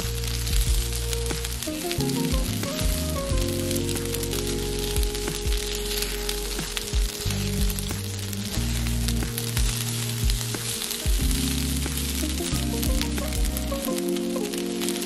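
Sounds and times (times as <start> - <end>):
background music with bass: 0.0 - 15.0
stir-fry sizzling in a frying pan: 0.0 - 15.0.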